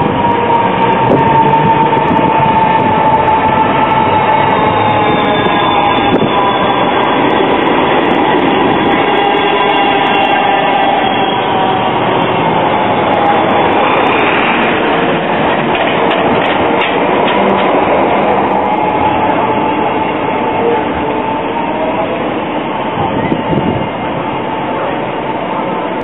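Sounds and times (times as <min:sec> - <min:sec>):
tram wheels on rails: 0:00.0 - 0:26.0.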